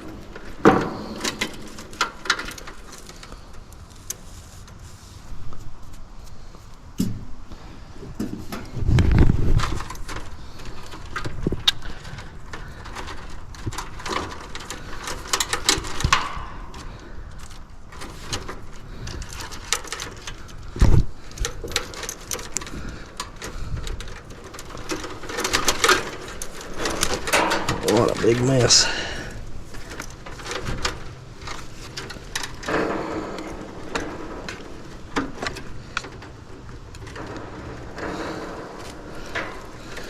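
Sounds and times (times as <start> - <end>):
clicks and rustles of handling: 0.0 - 40.0.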